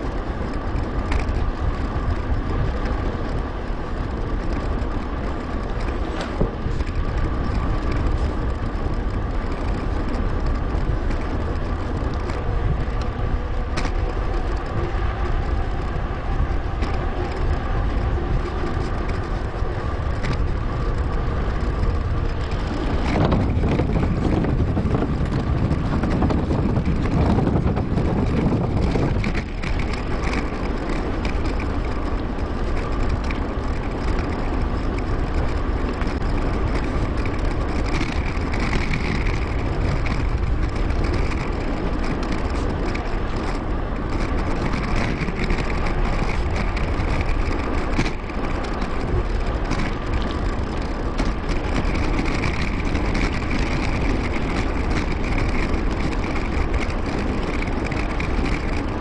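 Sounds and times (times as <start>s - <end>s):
bike tyre noise: 0.0s - 59.0s
loud rumble: 0.0s - 59.0s
wind noise: 0.0s - 59.0s.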